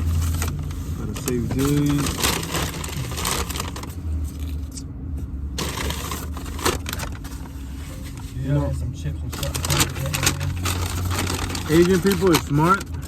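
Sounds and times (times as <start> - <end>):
packaging rustling and scraping: 0.0 - 4.8, 5.6 - 8.6, 9.3 - 13.0.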